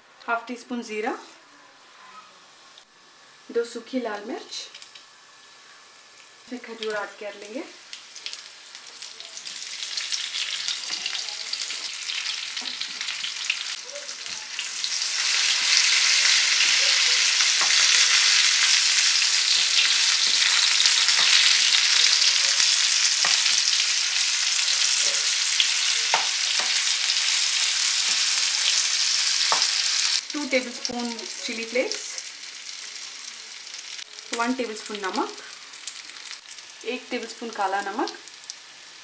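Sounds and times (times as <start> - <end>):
food sizzling in oil: 0.8 - 39.0.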